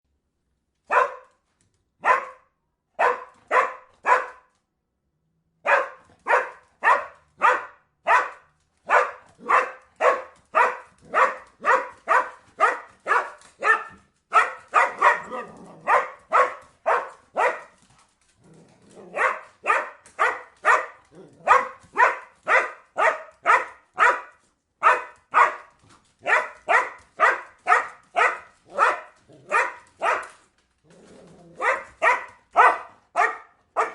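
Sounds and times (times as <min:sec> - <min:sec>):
dog barking: 0:00.9 - 0:01.4, 0:02.0 - 0:04.5, 0:05.6 - 0:17.8, 0:19.0 - 0:30.4, 0:31.5 - 0:33.9.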